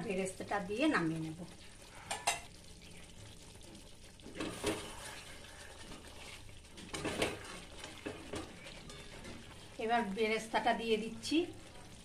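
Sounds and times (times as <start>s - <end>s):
spatula scraping and squelching in pan: 1.5s - 12.0s.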